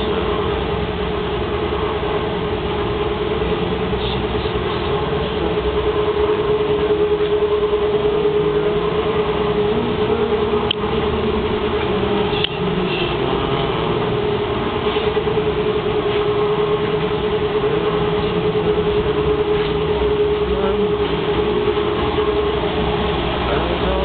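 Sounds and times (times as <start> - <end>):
steady droning tone: 0.0 - 24.0.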